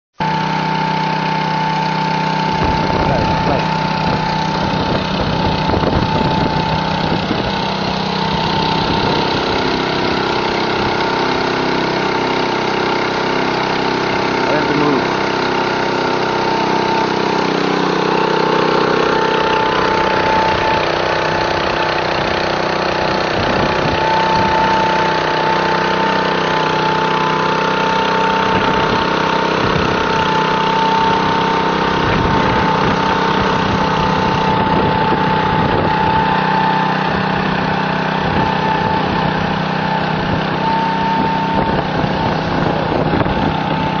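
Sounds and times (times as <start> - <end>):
small engine running: 0.1 - 44.0
high whine: 0.2 - 44.0.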